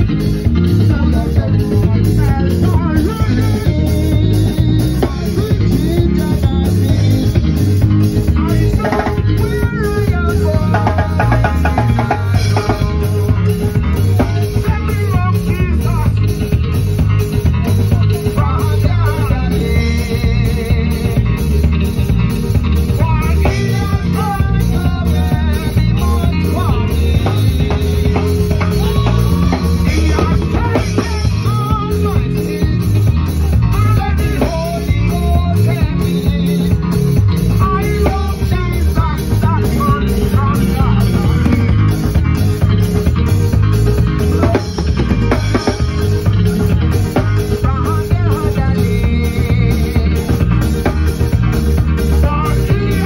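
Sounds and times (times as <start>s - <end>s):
man singing into a microphone: 0.0s - 22.0s, 22.8s - 42.4s, 45.4s - 53.0s
live band drums and bass: 0.0s - 53.0s.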